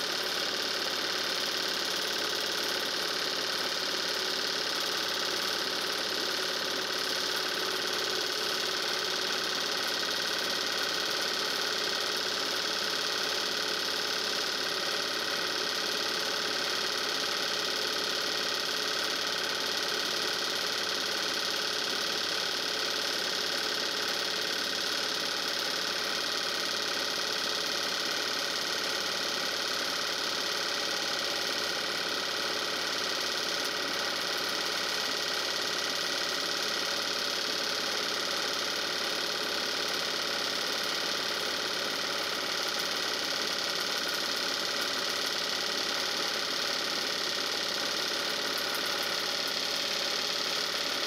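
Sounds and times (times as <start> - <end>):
film projector whirring: 0.0 - 51.0.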